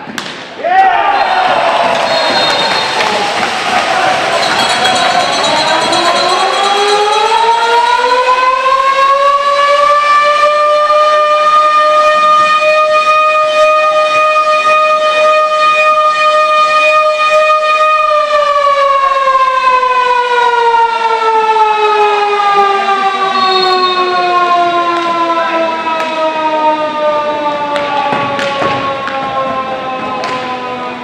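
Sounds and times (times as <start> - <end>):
goal siren wailing: 1.1 - 31.0.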